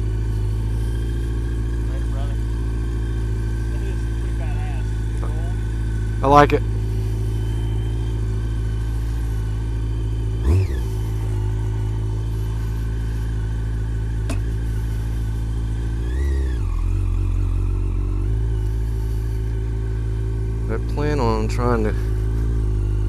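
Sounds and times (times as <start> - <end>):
engine revving: 0.0 - 23.0
motorcycle engine running: 0.0 - 23.0.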